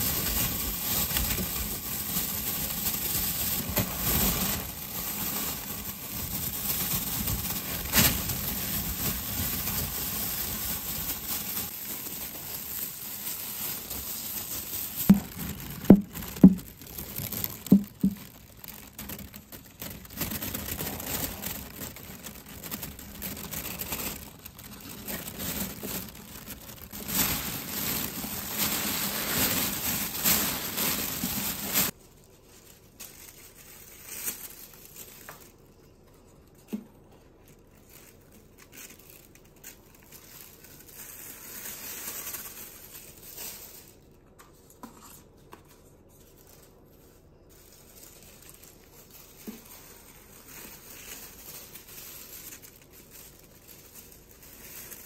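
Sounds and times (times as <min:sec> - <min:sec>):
plastic bag crinkling: 0:00.0 - 0:55.0.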